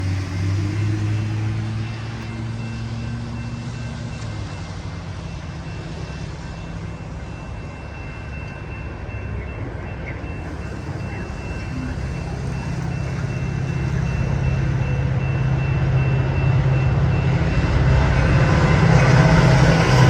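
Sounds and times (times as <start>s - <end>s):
diesel engine drone: 0.0s - 20.0s
train wheels rumbling on rail: 0.0s - 20.0s.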